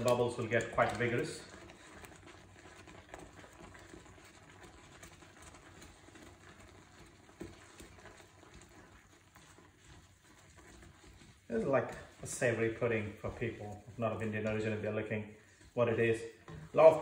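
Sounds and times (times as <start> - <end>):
semolina bubbling in a pan: 0.0 - 17.0.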